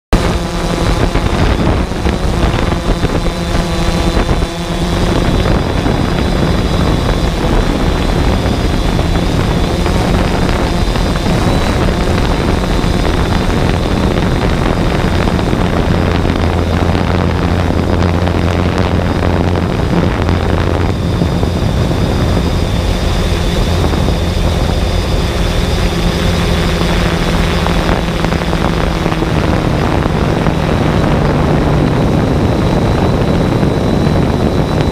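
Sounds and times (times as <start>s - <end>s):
drone propellers whirring: 0.1s - 34.9s
thin high whine: 0.1s - 34.9s.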